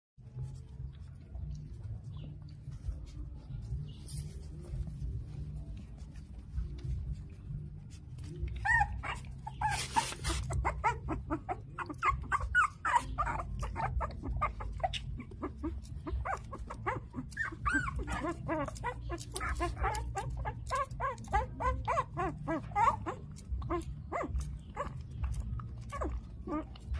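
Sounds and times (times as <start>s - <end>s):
low steady rumble: 0.2s - 26.9s
puppies whimpering and squealing: 0.3s - 26.9s.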